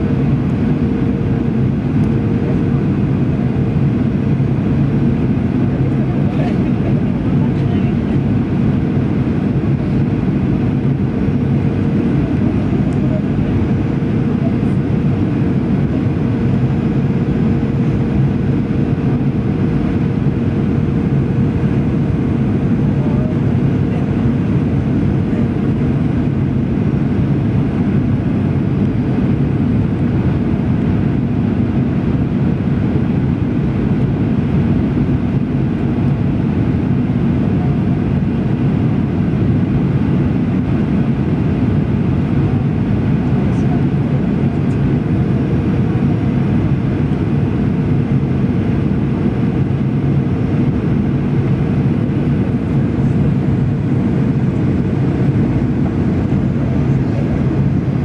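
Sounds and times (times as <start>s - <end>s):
jet engine and airflow noise: 0.0s - 58.0s.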